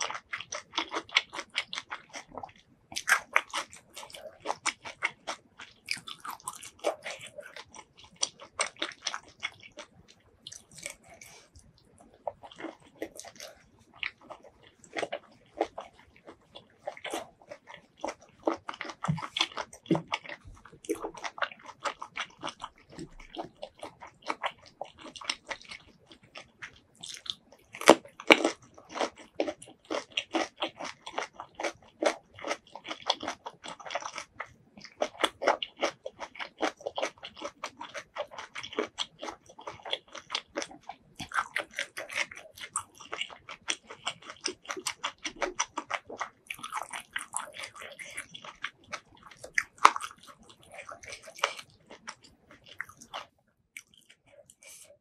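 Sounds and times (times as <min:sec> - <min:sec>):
close chewing clicks and smacks: 0:00.0 - 0:55.0.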